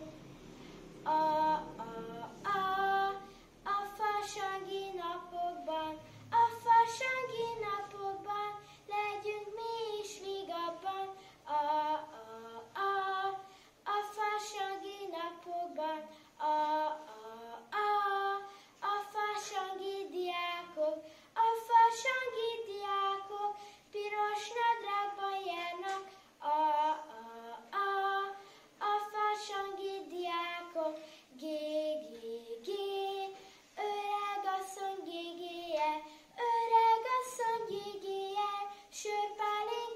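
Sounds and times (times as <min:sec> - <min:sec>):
boy singing: 0:01.0 - 0:39.9.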